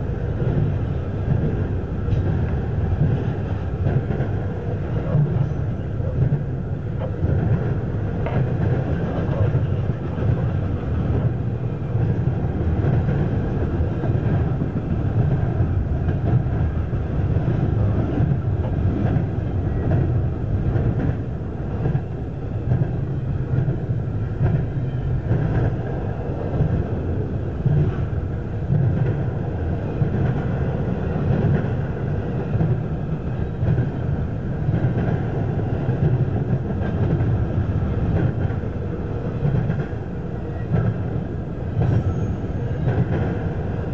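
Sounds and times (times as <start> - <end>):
freight train passing: 0.0 - 43.9
steel wheels rumbling on rails: 0.0 - 43.9.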